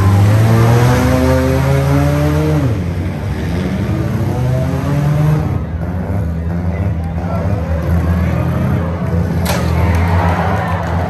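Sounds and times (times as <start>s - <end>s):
arena noise: 0.0s - 11.0s
car engines revving: 0.0s - 11.0s.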